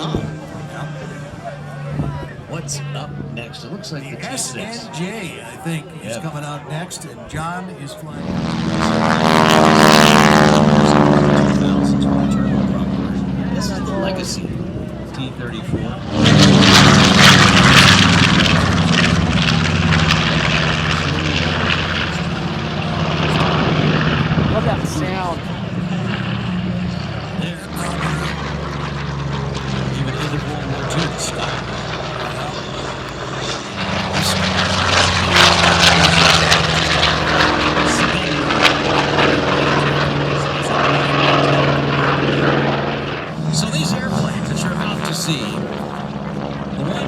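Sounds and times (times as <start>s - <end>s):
propeller plane passing overhead: 0.0s - 47.0s.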